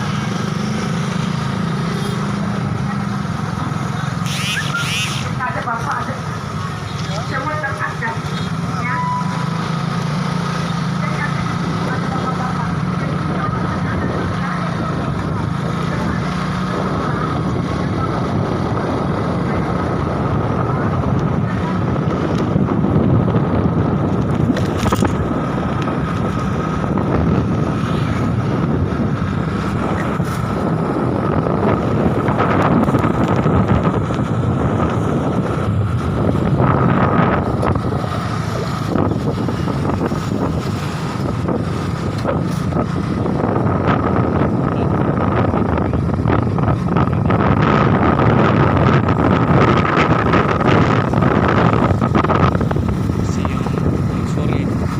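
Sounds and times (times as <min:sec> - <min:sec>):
wind gusting over microphone: 0:00.0 - 0:54.9.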